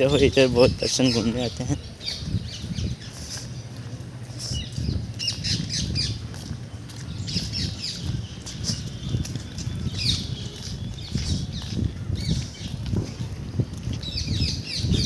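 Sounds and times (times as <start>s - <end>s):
birds squawking and chirping: 0.0s - 15.0s
low rumble: 1.8s - 15.0s.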